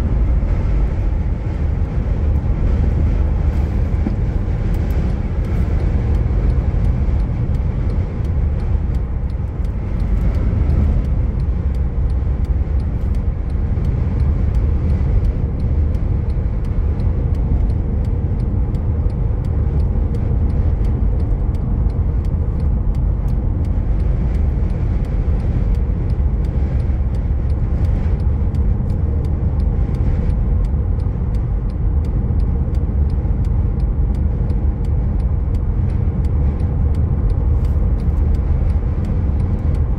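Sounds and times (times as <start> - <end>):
road and wind rumble inside car: 0.0 - 39.9.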